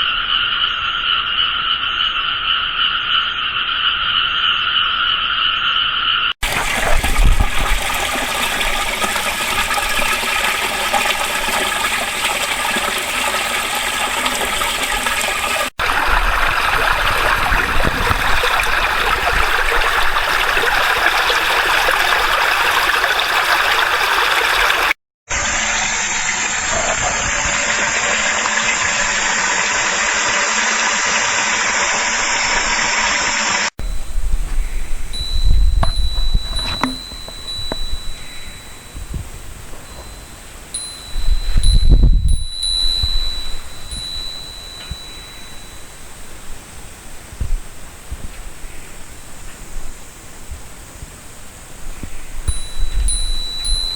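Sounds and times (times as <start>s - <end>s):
rushing water: 6.4s - 53.9s.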